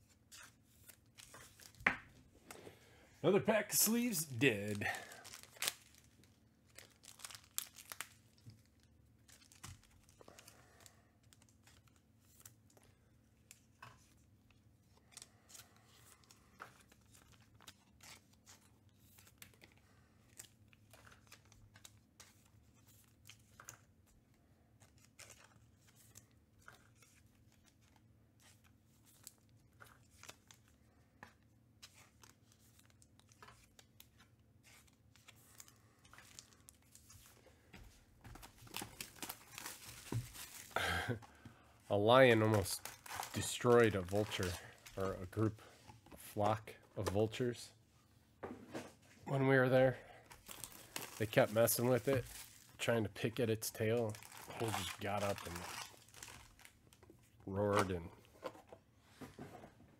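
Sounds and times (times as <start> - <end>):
card packs crinkling and tearing: 0.0 - 1.9, 3.4 - 24.0, 24.7 - 37.4, 38.3 - 47.5, 49.6 - 58.6
cards being handled: 0.0 - 2.8, 3.6 - 41.5, 42.2 - 47.4, 50.2 - 52.8, 53.8 - 59.4.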